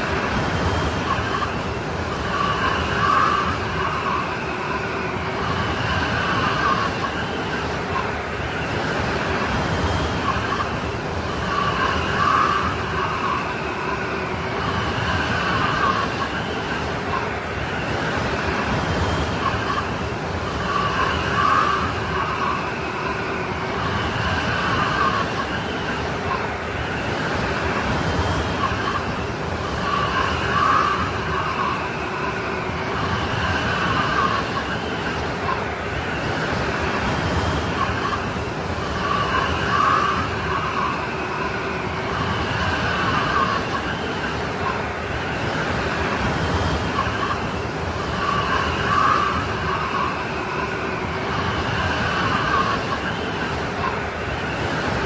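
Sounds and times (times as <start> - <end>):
strong snowstorm wind: 0.0 - 55.0
wavering wind whistle: 0.0 - 55.0.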